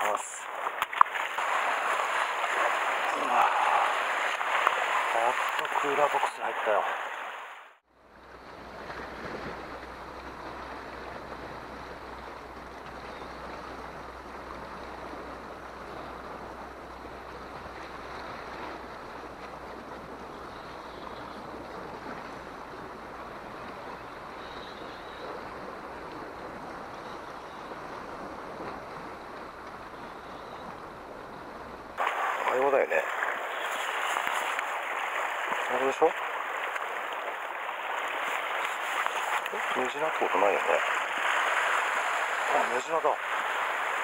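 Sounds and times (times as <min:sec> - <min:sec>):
surf washing against rocks: 0:00.0 - 0:29.9, 0:31.9 - 0:44.0.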